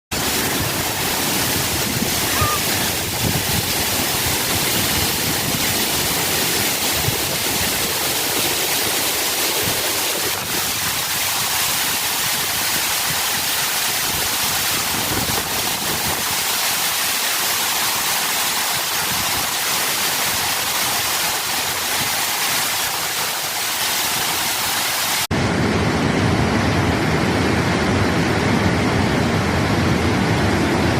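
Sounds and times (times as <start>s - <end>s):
waterfall rushing: 0.1s - 25.3s.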